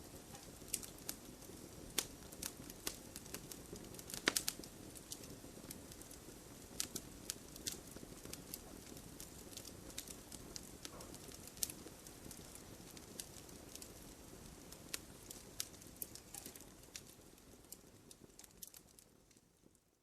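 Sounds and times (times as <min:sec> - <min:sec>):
campfire crackling and popping: 0:00.0 - 0:19.8
soft rush of flames: 0:00.0 - 0:19.8.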